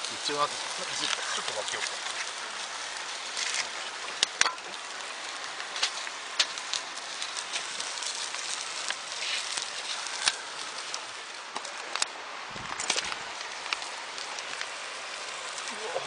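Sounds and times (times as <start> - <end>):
bonfire crackling and hissing: 0.0 - 16.0.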